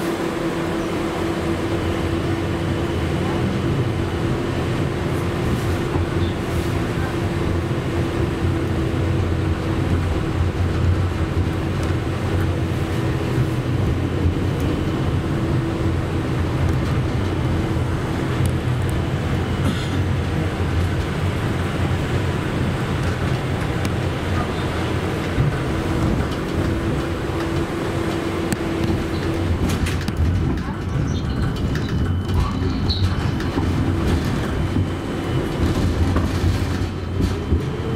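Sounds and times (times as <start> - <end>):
constant hum: 0.0 - 37.9
tram wheels rumbling: 0.0 - 37.9.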